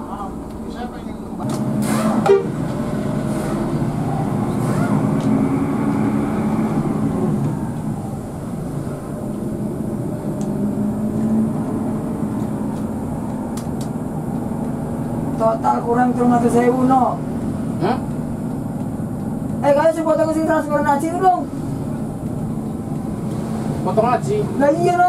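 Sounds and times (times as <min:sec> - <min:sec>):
coach diesel engine running: 0:00.0 - 0:25.0
road noise: 0:00.0 - 0:25.0.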